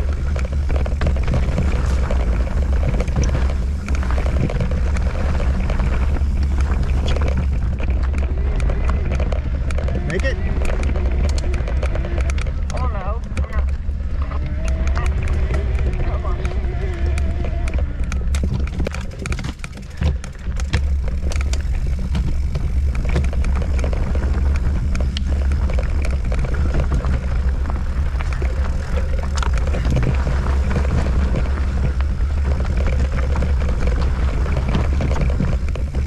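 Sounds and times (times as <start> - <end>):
bike rattling over rocks: 0.0 - 36.0
bike tyres crunching: 0.0 - 36.0
wind rumble on microphone: 0.0 - 36.0.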